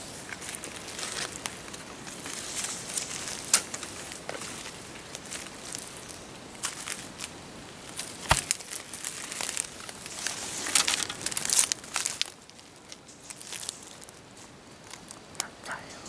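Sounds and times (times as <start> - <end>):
footsteps crunching through dry leaves: 0.0 - 15.8.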